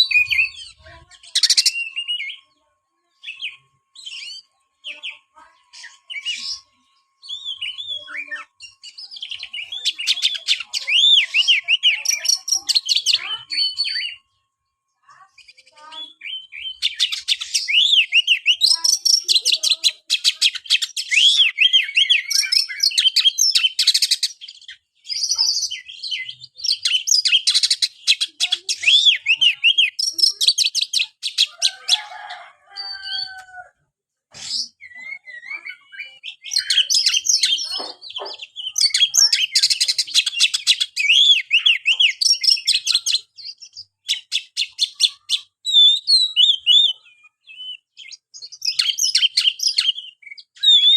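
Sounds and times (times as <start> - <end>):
bird singing chattering song: 0.0 - 33.6, 34.3 - 50.9.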